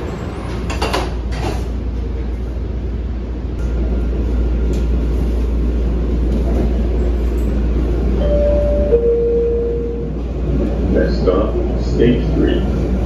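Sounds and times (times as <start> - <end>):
subway train wheels and motors rumbling: 0.0 - 13.0.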